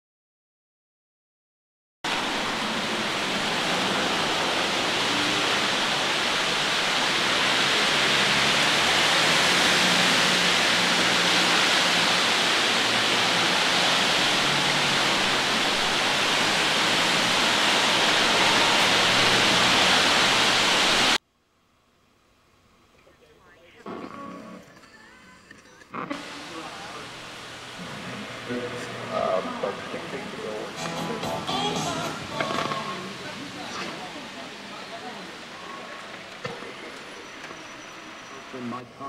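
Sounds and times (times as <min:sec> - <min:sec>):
heavy rain falling: 0:02.1 - 0:21.2, 0:26.0 - 0:39.0.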